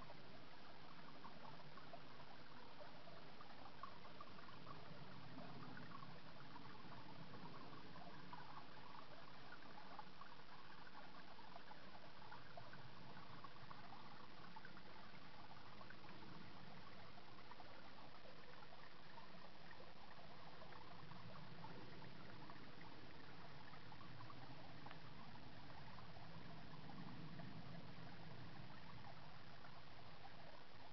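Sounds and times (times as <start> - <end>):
water trickling over stones: 0.0 - 30.9.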